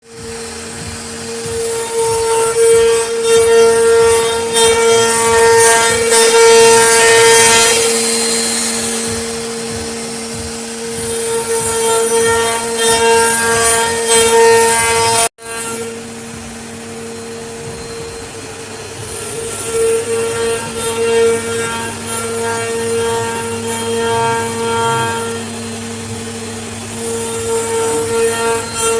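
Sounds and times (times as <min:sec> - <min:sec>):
router spindle cutting wood: 0:00.0 - 0:28.9.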